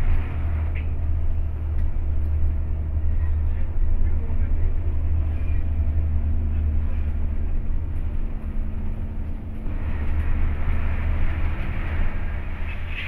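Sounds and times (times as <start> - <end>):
bus engine droning: 0.0 - 13.0
road noise: 0.0 - 13.0.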